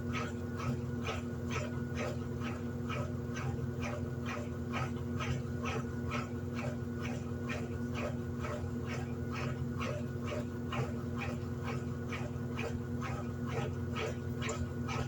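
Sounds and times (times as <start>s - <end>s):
washing machine motor humming: 0.0s - 15.0s.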